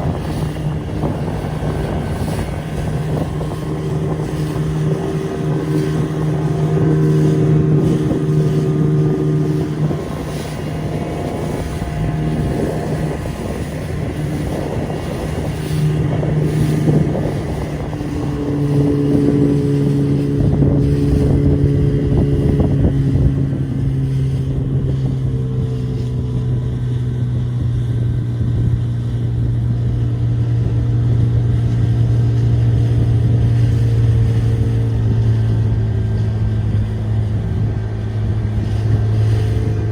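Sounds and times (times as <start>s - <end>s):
motorboat engine running: 0.0s - 39.9s
wind buffeting microphone: 0.0s - 39.9s.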